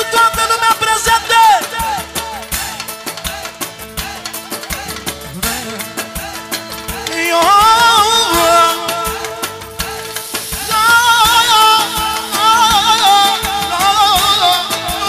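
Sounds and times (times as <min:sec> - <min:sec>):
keyboard chords: 0:00.0 - 0:15.0
percussion: 0:00.0 - 0:15.0
person singing melismatic vocals: 0:00.0 - 0:15.0.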